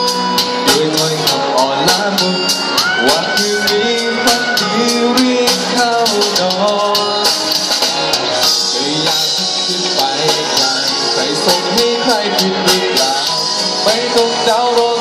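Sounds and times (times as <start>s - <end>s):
man singing into a microphone: 0.0s - 15.0s
pop music with steady beat: 0.0s - 15.0s.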